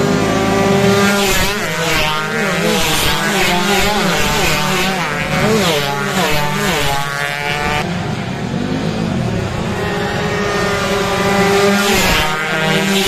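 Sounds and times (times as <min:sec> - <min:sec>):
racing motorcycles passing: 0:00.0 - 0:13.0.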